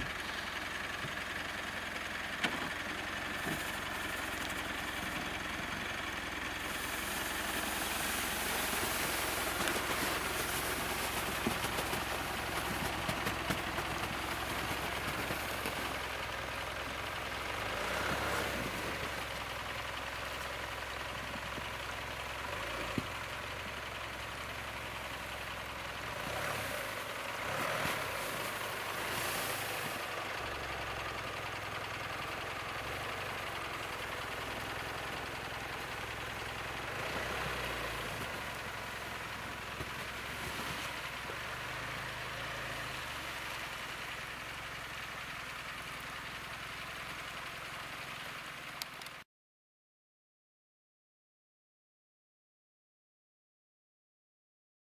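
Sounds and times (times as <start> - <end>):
car engine humming: 0.0 - 49.1.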